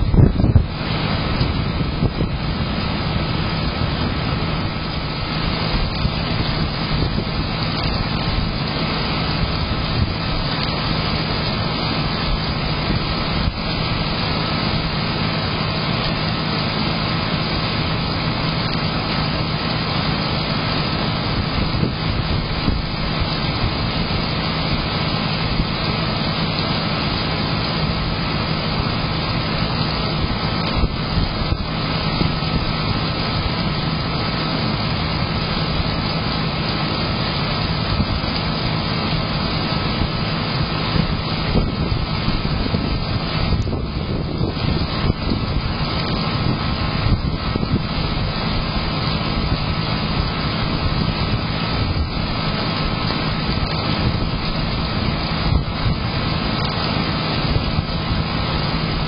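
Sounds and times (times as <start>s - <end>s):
heavy rain and wind: 0.0s - 59.0s.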